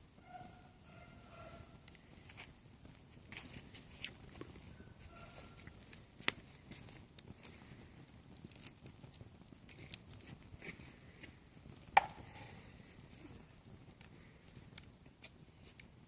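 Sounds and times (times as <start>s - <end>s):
dry wood crackling and snapping: 0.2s - 16.0s.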